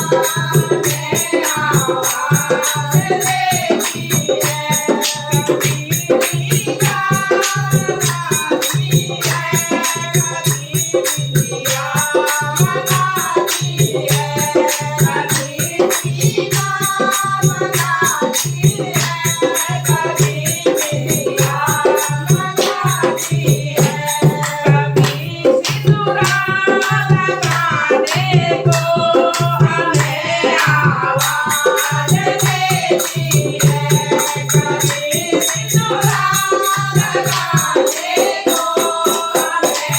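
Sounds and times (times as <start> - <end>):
person singing devotional song: 0.0 - 39.9.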